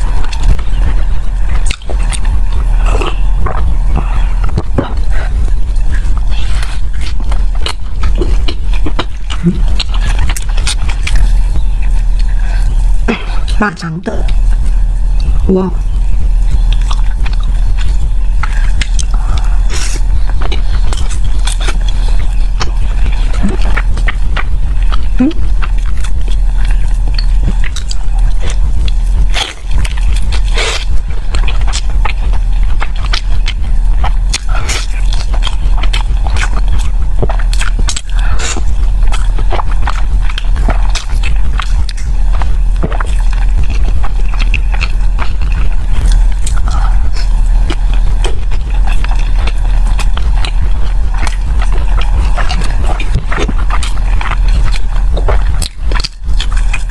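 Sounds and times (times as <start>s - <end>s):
chewing with wet mouth clicks: 0.0s - 13.6s, 14.3s - 56.9s
low hum: 0.0s - 56.9s.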